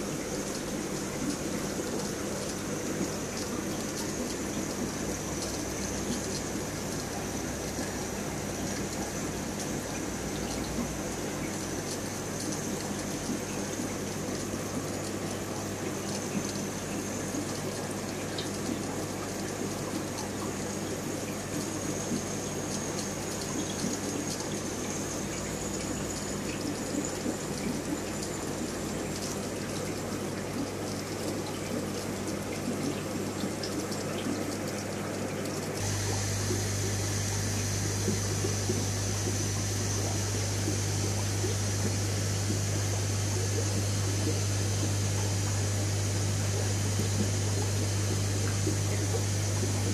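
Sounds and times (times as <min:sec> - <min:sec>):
sponge filters bubbling: 0:00.0 - 0:49.9
steady low hum: 0:00.0 - 0:49.9
water trickling: 0:00.0 - 0:49.9.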